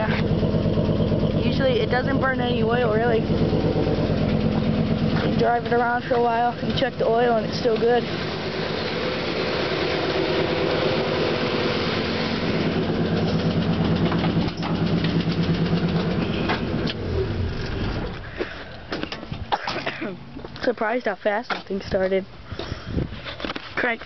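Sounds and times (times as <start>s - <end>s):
pickup engine idling: 0.0s - 20.8s.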